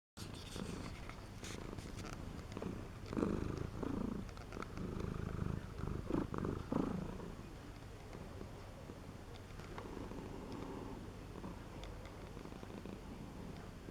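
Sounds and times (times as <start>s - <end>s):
cat purring snore: 0.4s - 7.5s, 8.2s - 13.9s.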